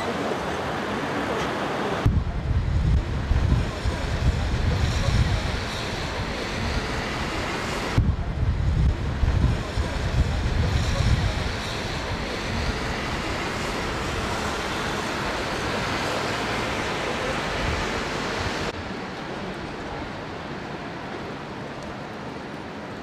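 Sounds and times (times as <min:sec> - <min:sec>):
outdoor ambience: 0:00.0 - 0:23.0
wind buffeting the microphone: 0:02.0 - 0:21.4.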